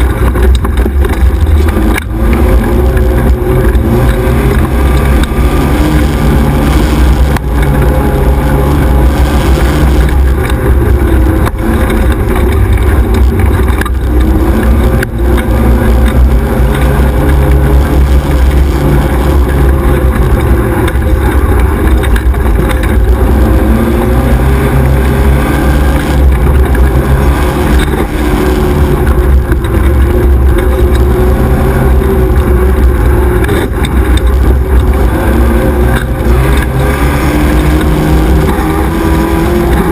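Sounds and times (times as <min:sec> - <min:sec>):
buggy engine revving: 0:00.0 - 0:39.9.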